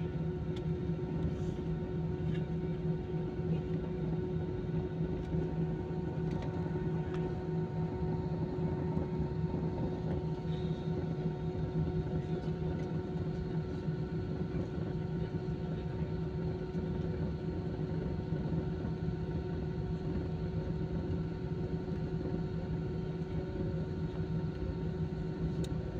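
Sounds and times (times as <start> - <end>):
jet engine cabin hum: 0.0 - 25.9.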